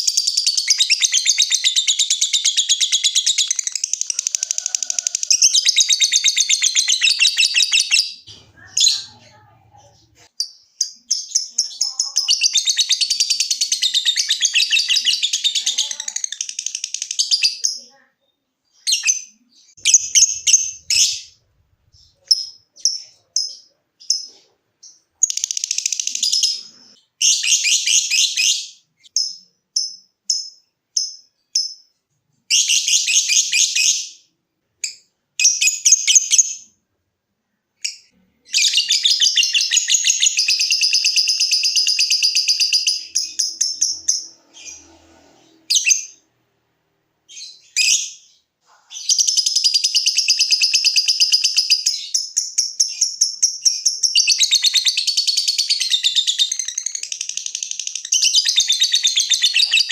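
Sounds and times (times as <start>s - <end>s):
bird high chirps: 0.0s - 36.8s, 37.8s - 46.3s, 47.2s - 59.9s.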